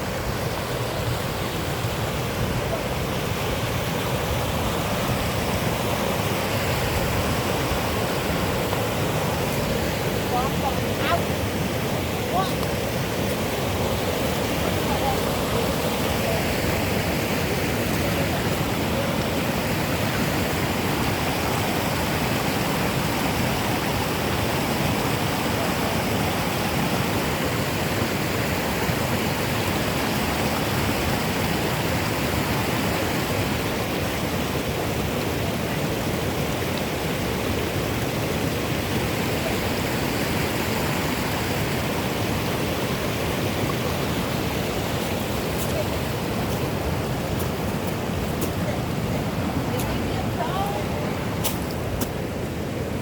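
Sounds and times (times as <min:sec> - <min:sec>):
rush of flowing water: 0:00.0 - 0:53.0.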